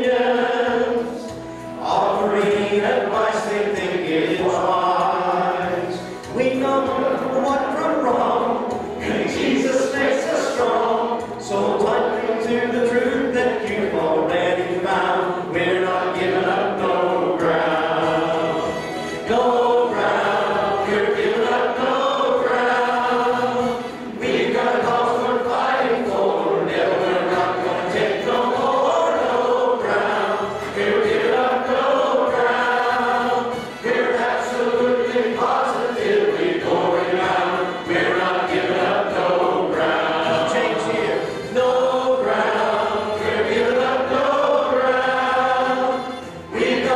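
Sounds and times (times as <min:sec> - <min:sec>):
man singing into a microphone: 0:00.0 - 0:23.8, 0:24.4 - 0:46.9
congregation singing a hymn: 0:00.0 - 0:46.9.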